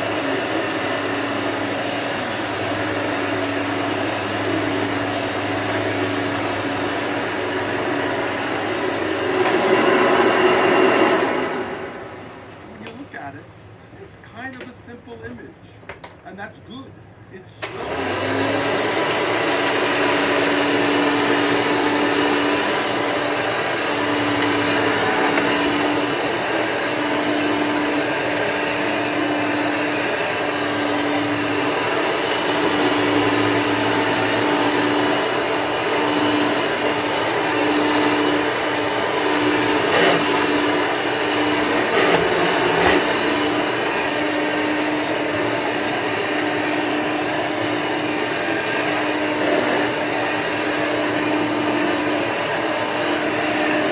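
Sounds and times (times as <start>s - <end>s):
vacuum cleaner running: 0.0s - 15.2s, 17.6s - 53.9s.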